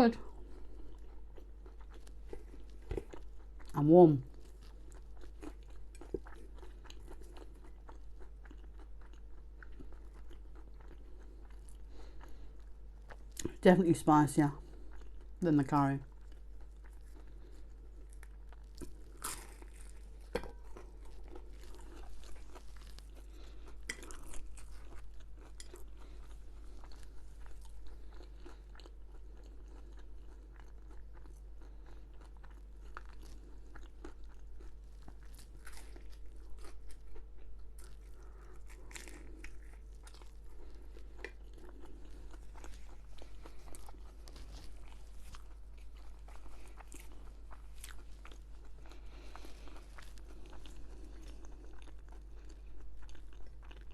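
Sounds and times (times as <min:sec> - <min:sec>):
person chewing crunchy food: 0:00.2 - 0:13.6, 0:14.5 - 0:53.9.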